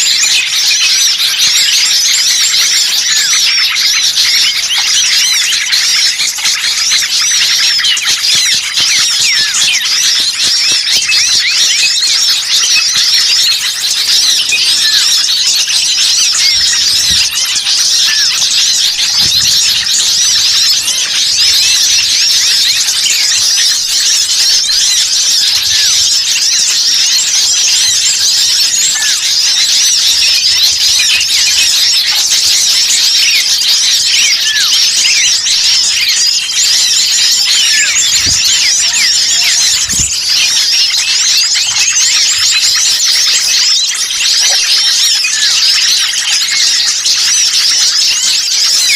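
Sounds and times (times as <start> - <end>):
songbirds chirping and twittering: 0.0 - 48.9.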